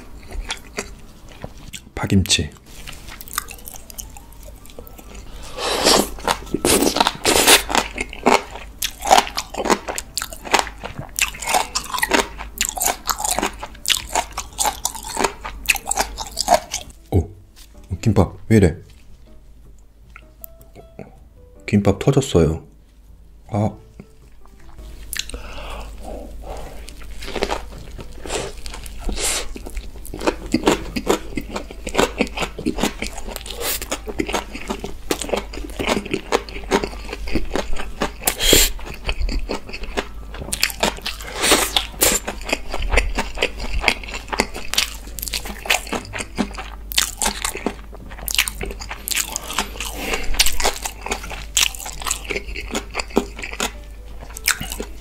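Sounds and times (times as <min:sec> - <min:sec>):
person chewing crunchy food: 0:00.0 - 0:01.9, 0:02.5 - 0:17.9, 0:23.8 - 0:55.0.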